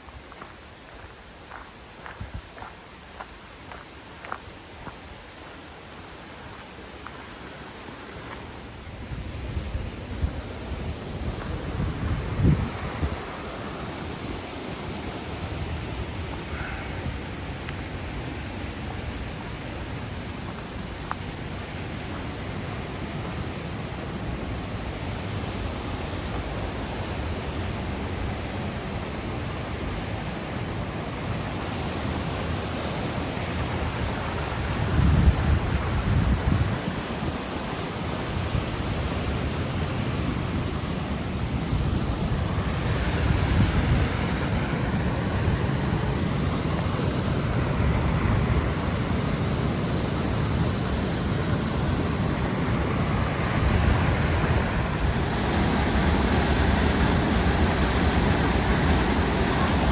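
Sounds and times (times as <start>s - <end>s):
rushing water: 0.0s - 59.9s
wind buffeting microphone: 0.2s - 2.7s, 8.8s - 28.5s, 29.6s - 59.9s.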